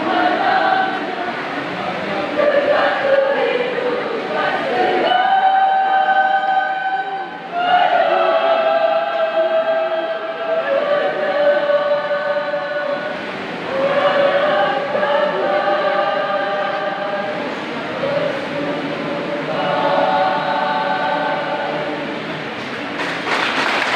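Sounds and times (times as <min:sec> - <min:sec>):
choir singing long notes: 0:00.0 - 0:22.9.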